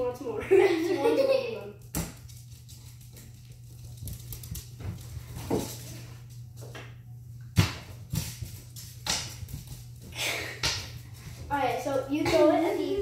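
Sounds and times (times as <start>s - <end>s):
faint low hum: 0.0s - 13.0s
dog paws tapping on wooden floor: 1.2s - 6.8s, 7.9s - 13.0s.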